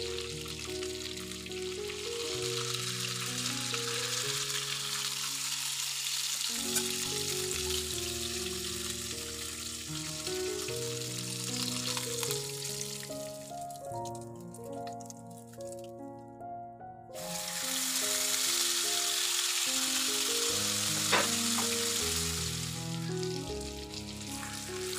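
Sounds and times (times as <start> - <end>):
chicken sizzling in hot oil: 0.0 - 13.7, 17.2 - 24.9
background music: 0.0 - 24.9.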